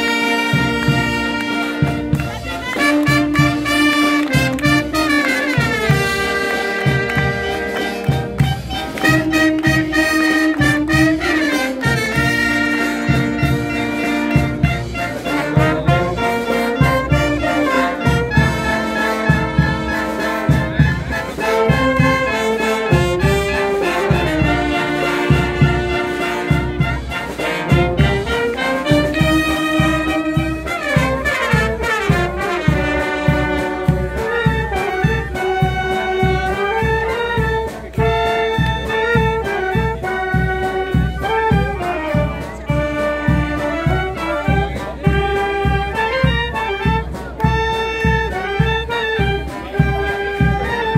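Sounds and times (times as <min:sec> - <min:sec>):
street brass band playing: 0:00.0 - 0:50.9.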